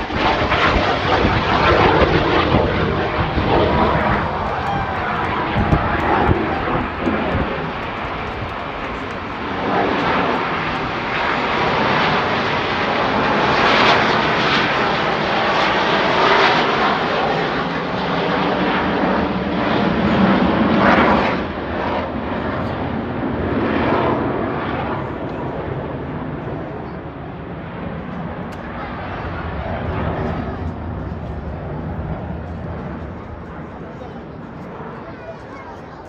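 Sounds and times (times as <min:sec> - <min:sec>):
airplane engine roar: 0:00.0 - 0:36.0.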